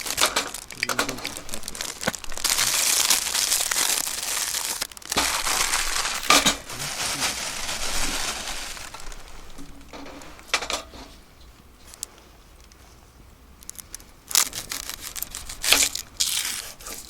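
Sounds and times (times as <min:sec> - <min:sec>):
rustling and crinkling handling: 0:00.0 - 0:13.0, 0:13.6 - 0:17.0.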